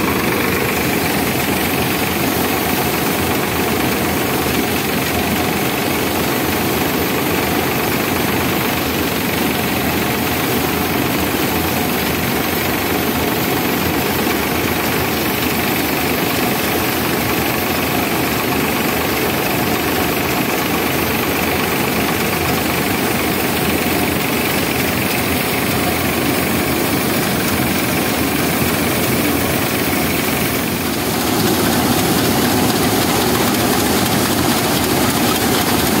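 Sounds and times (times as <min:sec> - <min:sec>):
thresher drum rattling whir: 0:00.0 - 0:36.0
tractor diesel engine running: 0:00.0 - 0:36.0.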